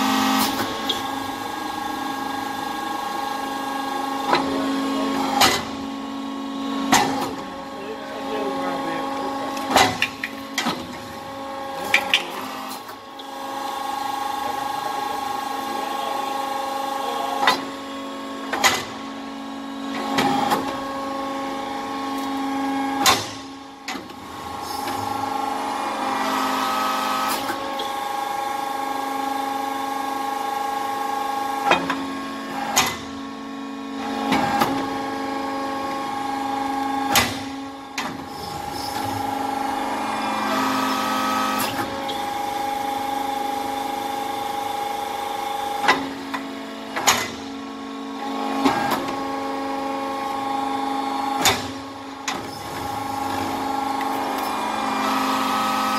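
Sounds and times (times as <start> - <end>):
hydraulic pump humming: 0.0 - 55.9.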